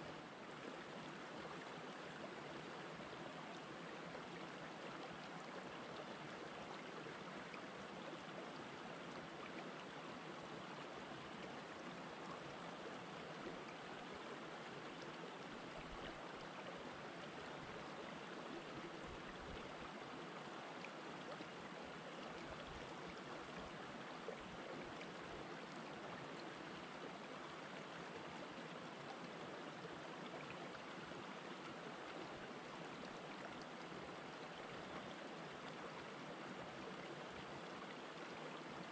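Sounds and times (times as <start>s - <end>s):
stream water rushing and trickling: 0.0s - 38.9s.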